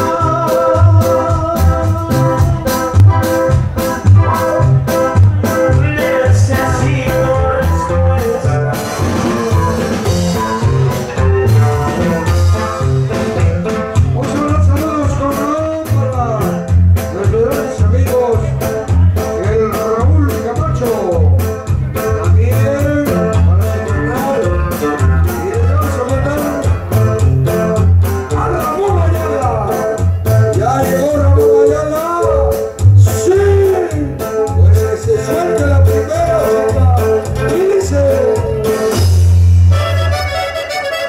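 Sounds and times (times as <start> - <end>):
loud bass beat: 0.0 - 41.0
percussion hits: 0.0 - 41.0
person singing melody: 0.0 - 41.0.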